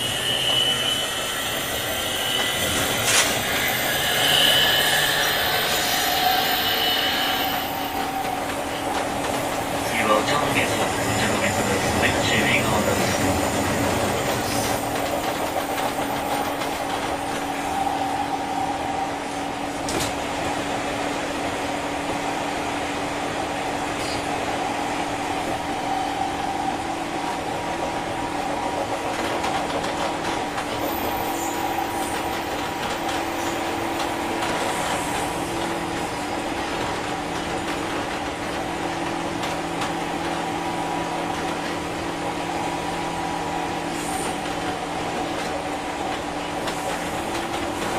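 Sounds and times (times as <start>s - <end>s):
rail and wheel noise: 0.0s - 47.9s.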